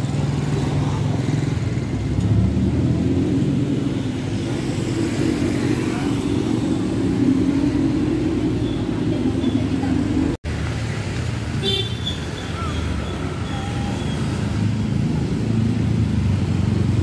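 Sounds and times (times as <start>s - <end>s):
scooter and car engines: 0.0s - 17.0s
tyres on wet road: 0.0s - 17.0s.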